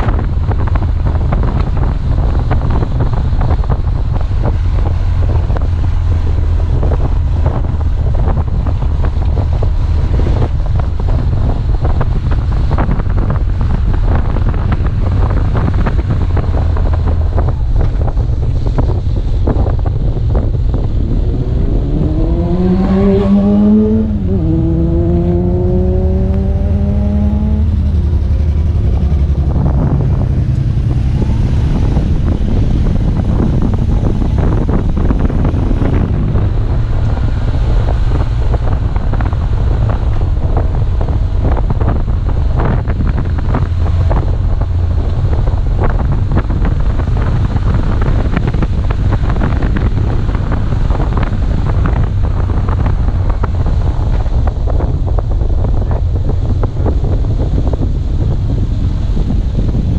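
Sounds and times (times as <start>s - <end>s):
motorcycle engine revving: 0.0s - 58.5s
wind buffeting microphone: 0.0s - 59.9s.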